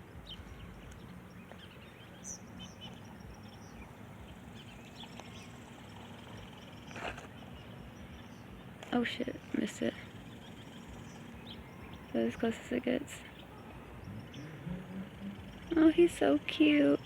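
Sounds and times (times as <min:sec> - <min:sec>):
low steady rumble: 0:00.0 - 0:17.0
small bird chirps: 0:00.2 - 0:17.0.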